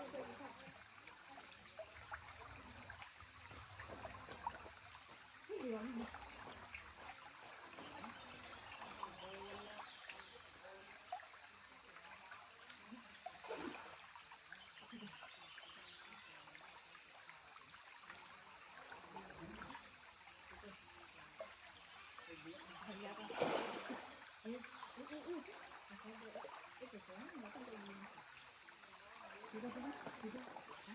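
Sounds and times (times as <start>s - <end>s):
faint trickling waterfall stream: 0.0s - 30.9s.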